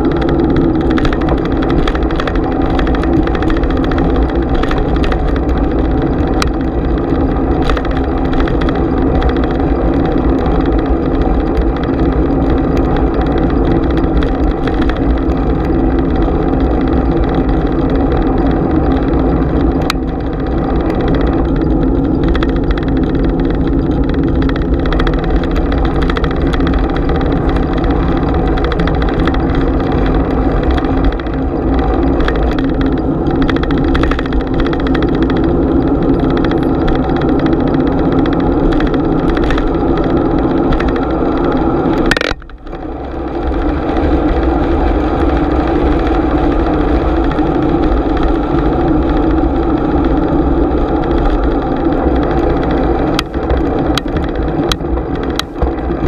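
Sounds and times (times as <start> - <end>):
bicycle tyre rumble: 0.0 - 56.0
bike rattles and clicks: 0.0 - 56.0
wind rush: 0.0 - 56.0.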